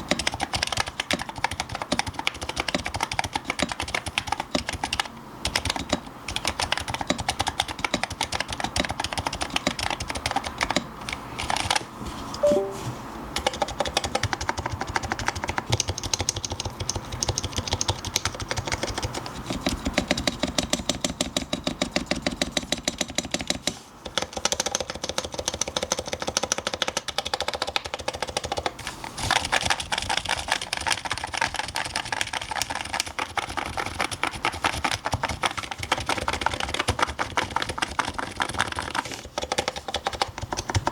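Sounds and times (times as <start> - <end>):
fast keyboard typing: 0.0 - 11.8, 13.4 - 40.9.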